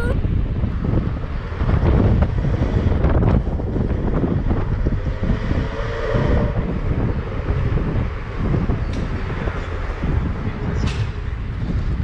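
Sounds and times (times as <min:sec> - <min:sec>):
car driving low rumble: 0:00.0 - 0:12.0
wind buffeting microphone: 0:00.0 - 0:12.0.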